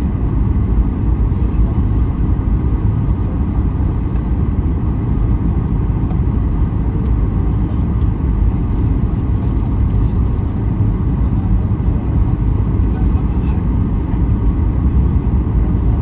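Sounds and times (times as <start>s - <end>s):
airplane cabin rumble: 0.0s - 16.0s.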